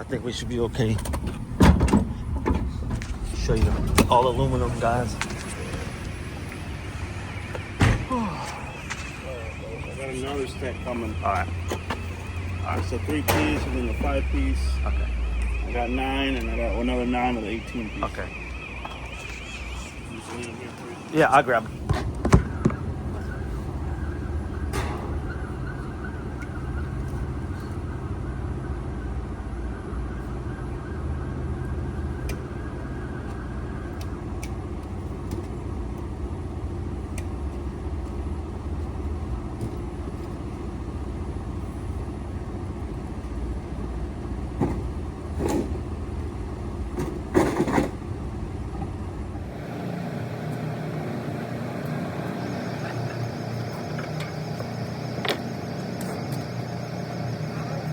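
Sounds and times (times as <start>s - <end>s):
vehicle engine low rumble: 0.0s - 57.9s.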